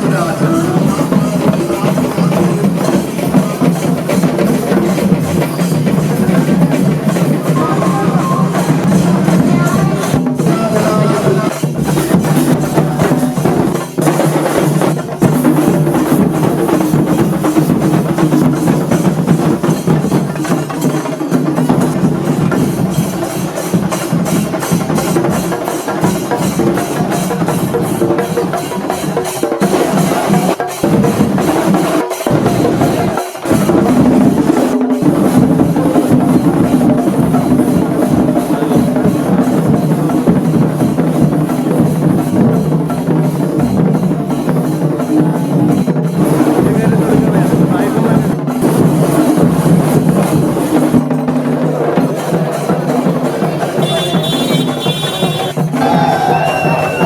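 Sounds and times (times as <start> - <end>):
rapid ensemble drumming: 0.0 - 57.0.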